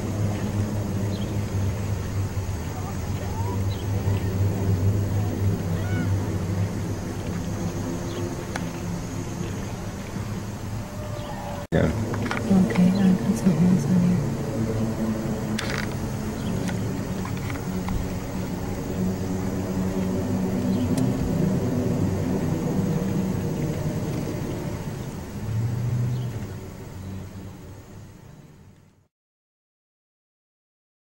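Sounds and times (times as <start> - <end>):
low droning rumble: 0.0 - 28.8.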